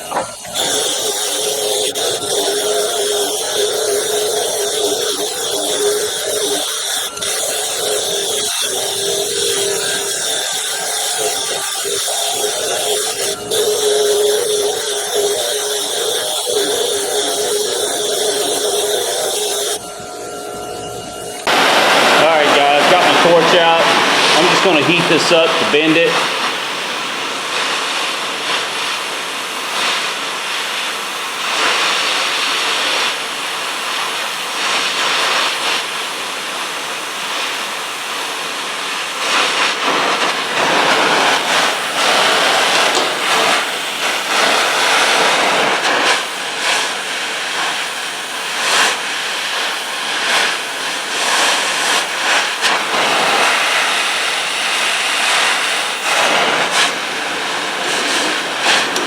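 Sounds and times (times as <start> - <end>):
gas torch flame hissing: 0.0 - 59.0.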